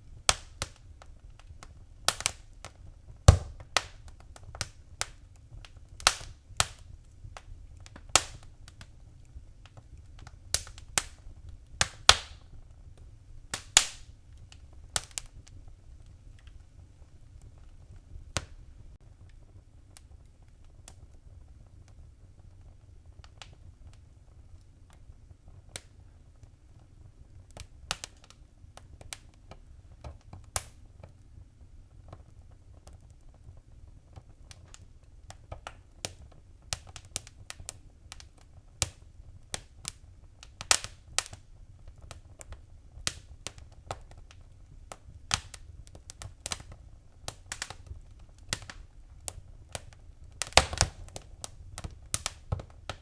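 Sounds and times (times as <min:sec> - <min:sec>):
low fire rumble: 0:00.0 - 0:53.0
wood fire crackling: 0:00.0 - 0:53.0.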